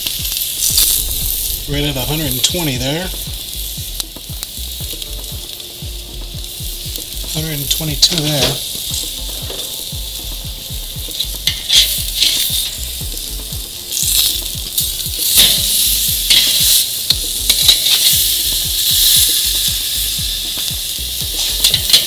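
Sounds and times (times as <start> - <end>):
steaks sizzling on a grill: 0.0 - 22.0.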